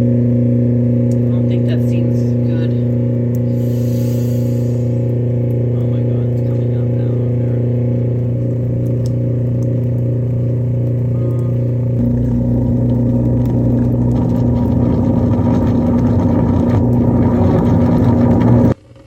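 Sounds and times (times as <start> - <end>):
garbage disposal motor hum: 0.0 - 19.0
disposal churning: 2.9 - 18.8.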